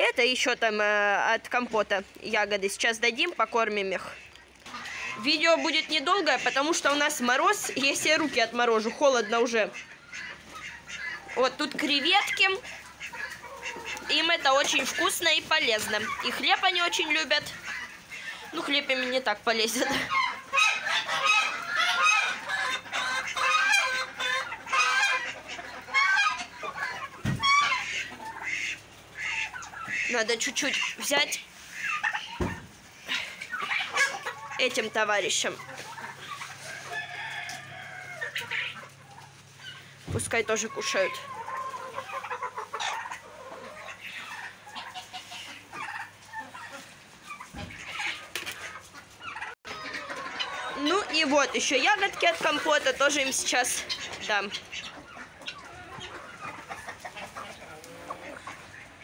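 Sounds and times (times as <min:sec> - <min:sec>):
chickens clucking: 0:00.0 - 0:59.0
poultry calling: 0:02.7 - 0:59.0.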